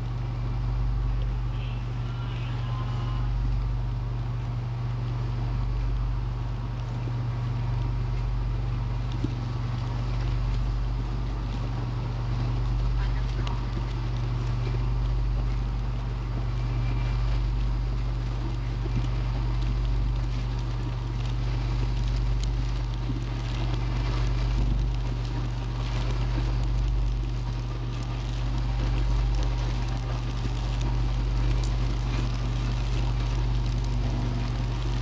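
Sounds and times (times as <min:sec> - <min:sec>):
therapy machine humming: 0:00.0 - 0:35.0.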